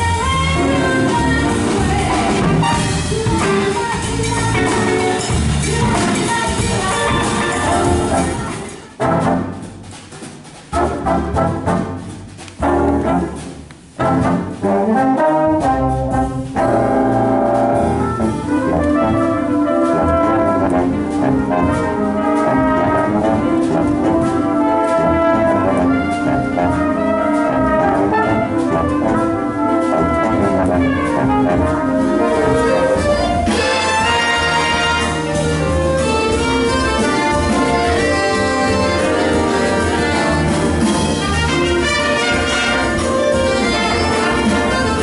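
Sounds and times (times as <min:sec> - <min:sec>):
jazz big band playing: 0:00.0 - 0:45.0.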